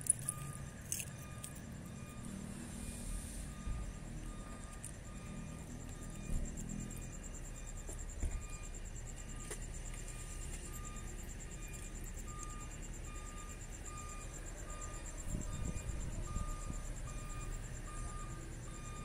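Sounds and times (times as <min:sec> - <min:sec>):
insect trill: 0:00.0 - 0:19.0
low traffic rumble: 0:00.0 - 0:19.0
vehicle reversing alarm beeping: 0:00.0 - 0:19.0.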